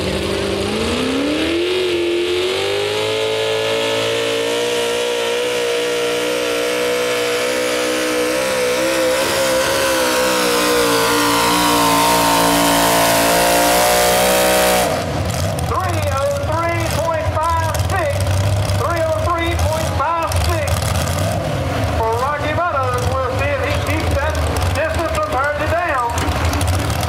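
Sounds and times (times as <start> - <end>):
tractor engine revving: 0.0 - 27.0.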